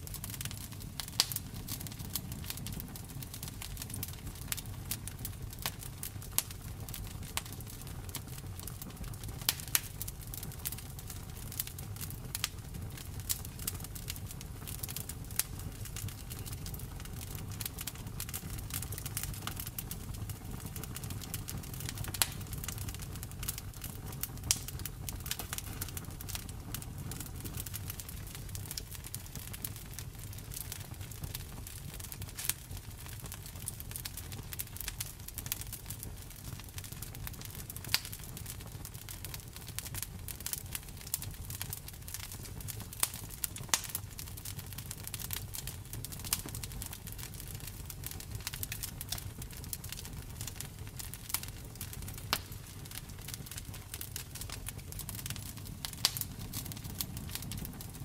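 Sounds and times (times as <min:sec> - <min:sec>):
campfire crackling and popping: 0:00.0 - 0:58.0
low fire rumble: 0:00.0 - 0:58.0.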